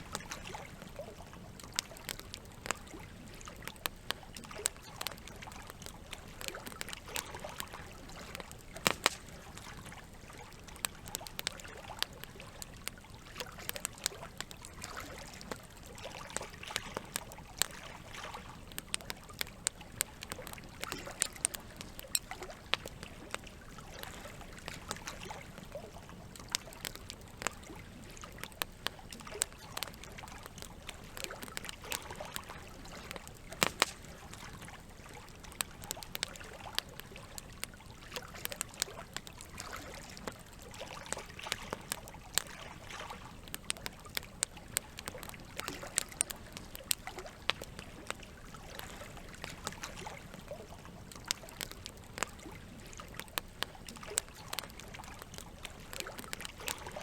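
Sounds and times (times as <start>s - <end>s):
campfire crackling and popping: 0.0s - 57.0s
steady water sound: 0.0s - 57.0s.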